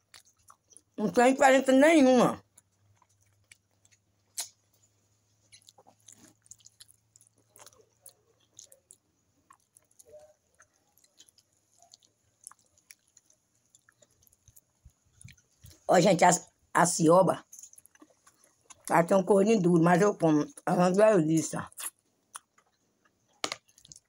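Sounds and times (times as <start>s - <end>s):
chewing and wet mouth sounds: 0.0s - 1.3s, 2.4s - 24.0s.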